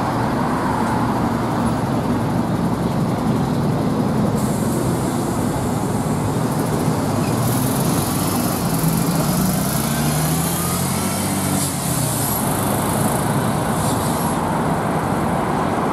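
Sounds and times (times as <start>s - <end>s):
bus engine accelerating: 0.0s - 15.9s
steady traffic noise: 0.0s - 15.9s.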